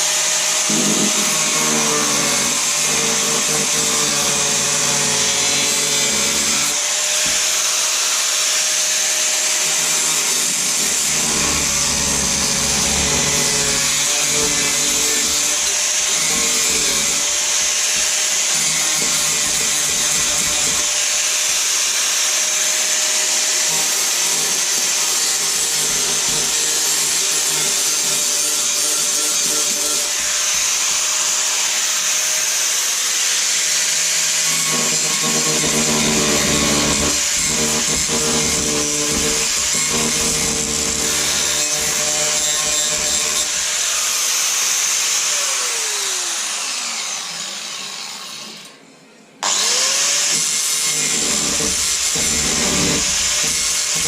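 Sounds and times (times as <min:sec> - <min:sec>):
angle grinder grinding metal: 0:00.0 - 0:31.8, 0:34.1 - 0:48.7, 0:49.4 - 0:54.0.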